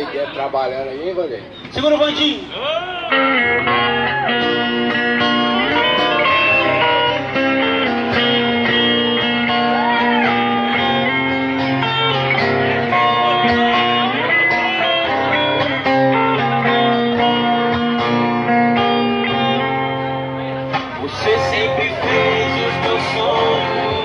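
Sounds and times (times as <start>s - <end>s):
lead guitar with bent notes: 0.0s - 24.0s
bass line: 3.1s - 24.0s.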